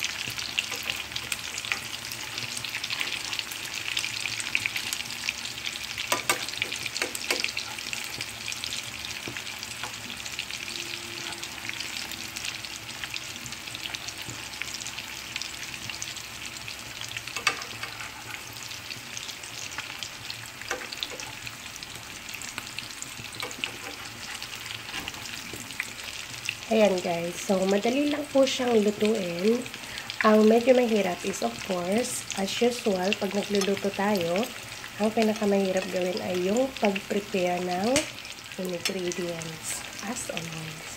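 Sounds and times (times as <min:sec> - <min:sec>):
eggplant sizzling in oil: 0:00.0 - 0:40.9.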